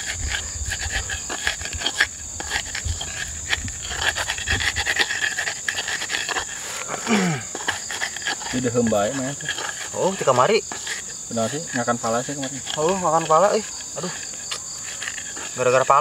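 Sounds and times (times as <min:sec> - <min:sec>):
crickets trilling: 0:00.0 - 0:16.0
pestle grinding in mortar: 0:00.0 - 0:16.0.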